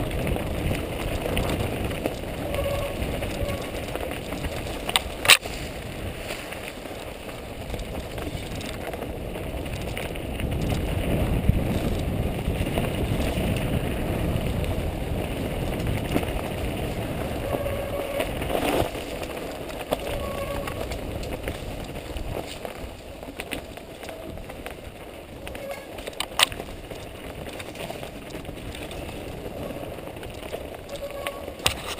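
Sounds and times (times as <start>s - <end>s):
bike tyres rumbling over ground: 0.0s - 31.9s.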